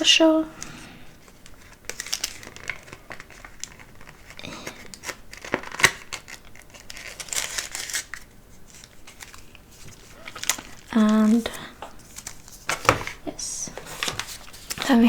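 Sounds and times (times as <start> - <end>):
packaging crinkling and rustling: 0.6 - 15.0.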